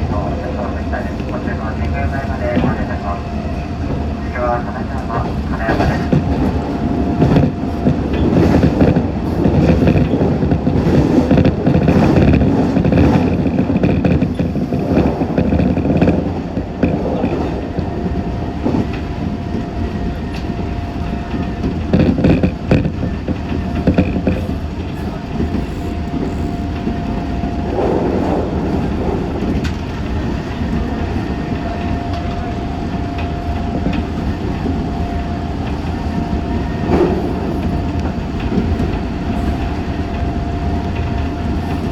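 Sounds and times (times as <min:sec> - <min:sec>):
train wheel and rail noise: 0:00.0 - 0:41.9
clacks over rail joints: 0:04.9 - 0:41.9.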